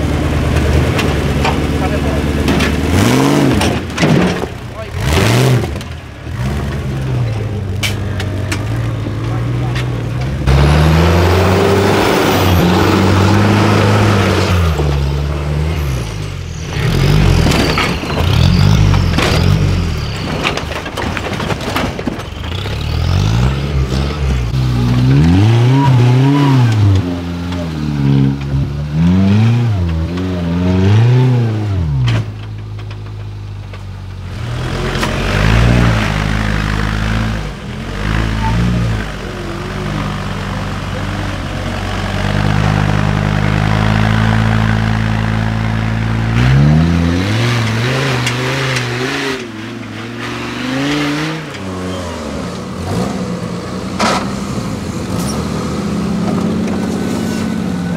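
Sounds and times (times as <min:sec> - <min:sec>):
off-road vehicle engines revving: 0:00.0 - 0:57.9.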